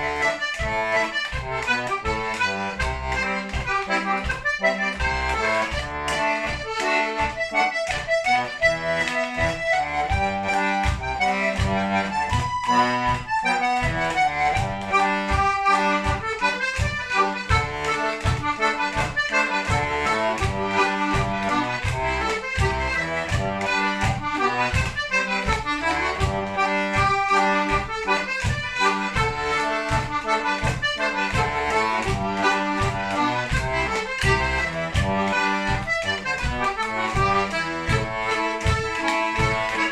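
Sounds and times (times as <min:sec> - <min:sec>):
button accordion playing: 0:00.0 - 0:39.9.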